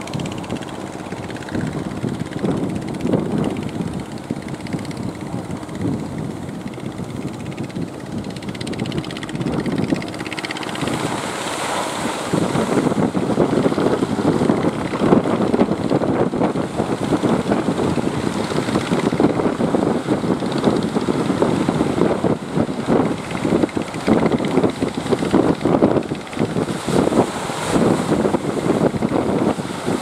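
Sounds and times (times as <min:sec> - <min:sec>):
surf washing: 0:00.0 - 0:30.0
wind buffeting microphone: 0:00.0 - 0:30.0.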